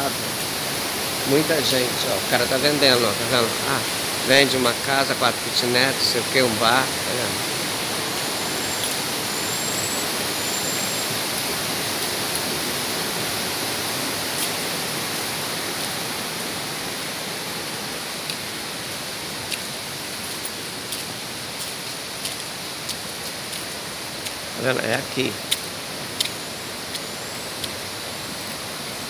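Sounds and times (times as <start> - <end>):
river and waterfall rushing: 0.0 - 29.0.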